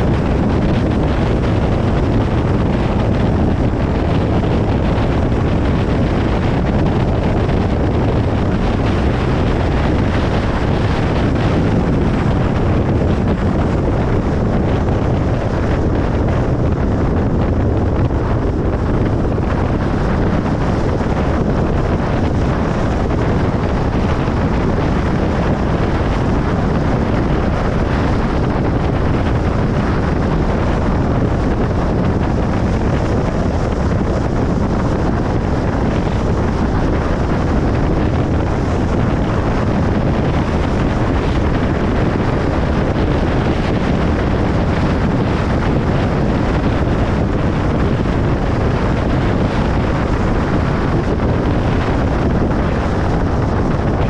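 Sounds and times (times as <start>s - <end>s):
car road noise on highway: 0.0s - 54.0s.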